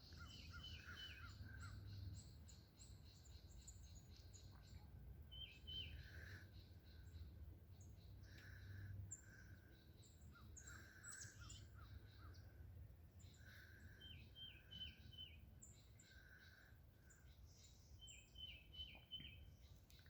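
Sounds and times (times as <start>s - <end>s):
low steady background rumble: 0.0s - 20.0s
wild birds calling and singing: 0.0s - 20.0s.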